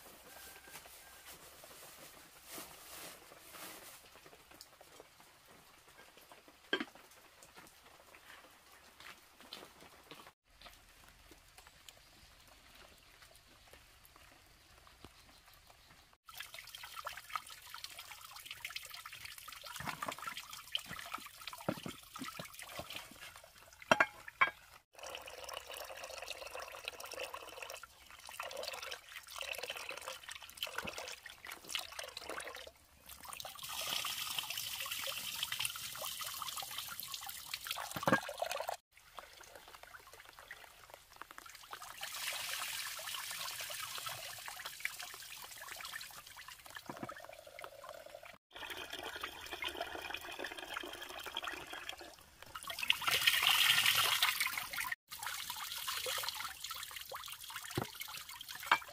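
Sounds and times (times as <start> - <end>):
water trickling and splashing: 10.4 - 58.9.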